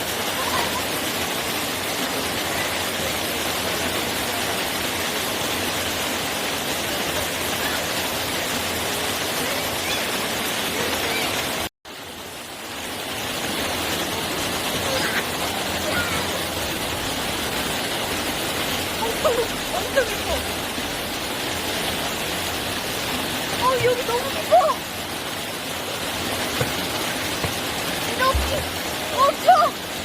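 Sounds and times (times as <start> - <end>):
mountain stream flowing: 0.0 - 30.0.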